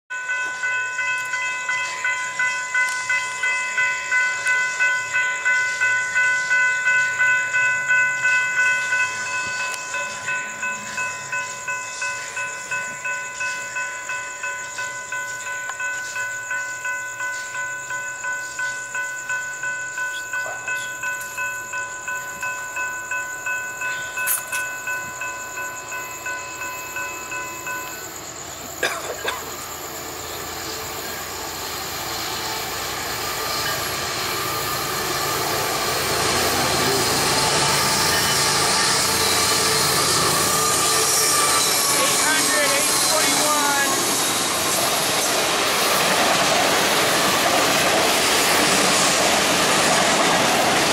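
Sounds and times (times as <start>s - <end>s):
railroad crossing bells ringing: 0.1s - 50.9s.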